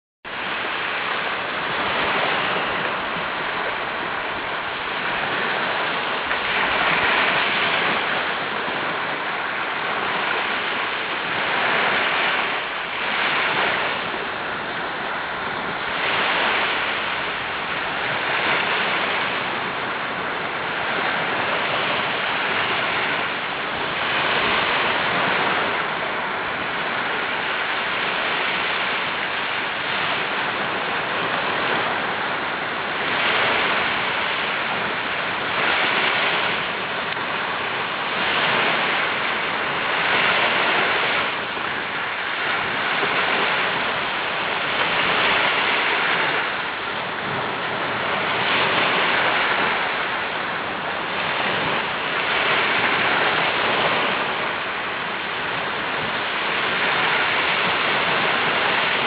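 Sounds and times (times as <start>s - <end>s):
sea waves washing in: 0.3s - 59.0s.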